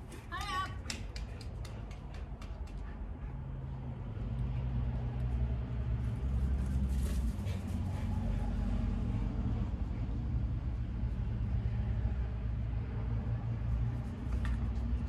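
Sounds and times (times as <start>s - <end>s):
low engine hum: 0.9s - 15.0s.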